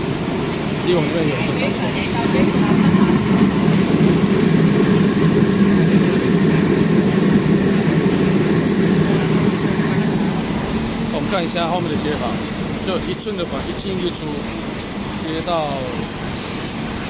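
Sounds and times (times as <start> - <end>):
machinery humming: 0.0 - 17.0
rushing noise: 0.0 - 17.0.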